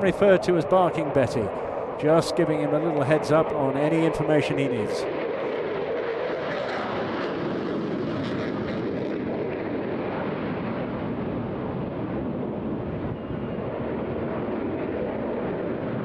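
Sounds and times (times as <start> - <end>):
fighter jet roar: 0.0 - 16.0.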